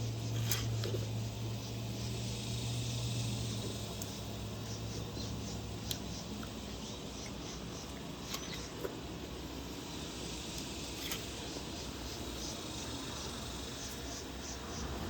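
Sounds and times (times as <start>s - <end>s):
faint insect sounds: 0.0s - 15.0s
steady low hum: 0.0s - 15.0s.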